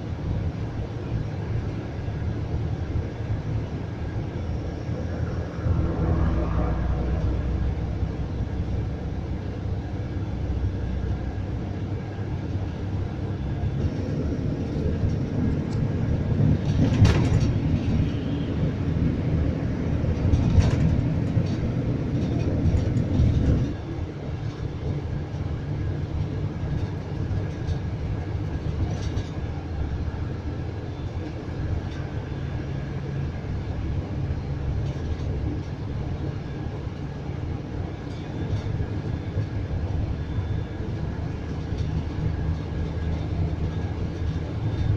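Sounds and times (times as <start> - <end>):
coach engine and road noise: 0.0 - 44.9.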